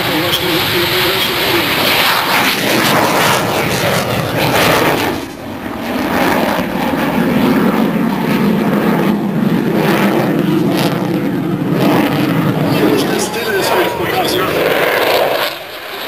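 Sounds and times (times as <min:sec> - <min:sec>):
plane flying past: 0:00.0 - 0:16.0.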